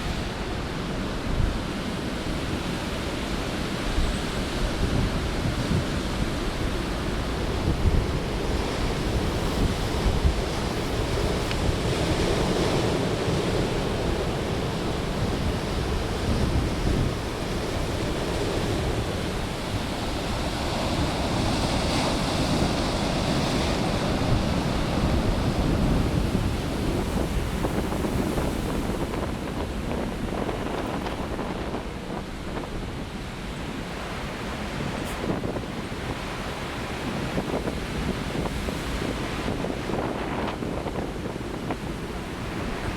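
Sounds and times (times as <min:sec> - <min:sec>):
storm surf breaking: 0:00.0 - 0:42.9
wind buffeting microphone: 0:00.0 - 0:42.9.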